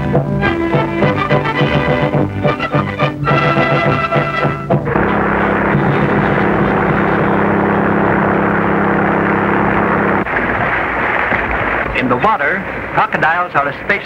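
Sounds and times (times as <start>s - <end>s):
motorboat engine running: 0.0s - 12.0s
rushing water wash: 0.0s - 14.0s.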